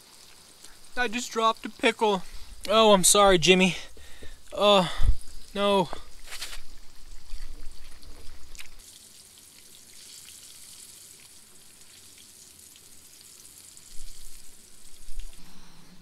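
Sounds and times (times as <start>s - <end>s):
hot oil sizzling: 0.0s - 15.4s.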